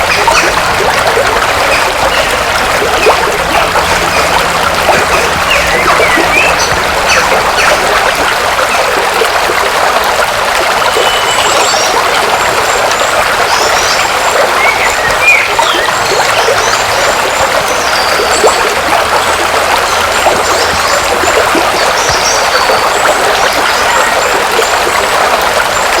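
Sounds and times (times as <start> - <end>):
river water rushing over rocks: 0.0 - 26.0.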